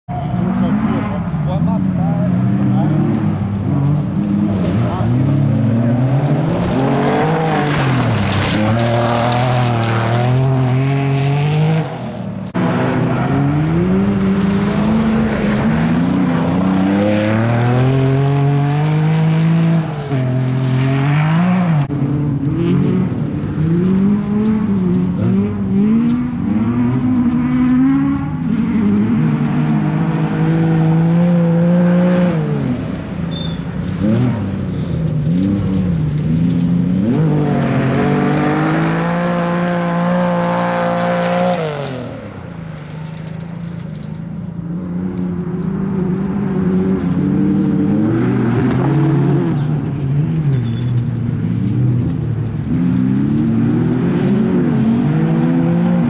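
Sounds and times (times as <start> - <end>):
rally car engine revving: 0.1 - 56.0
tyre noise: 1.8 - 56.0.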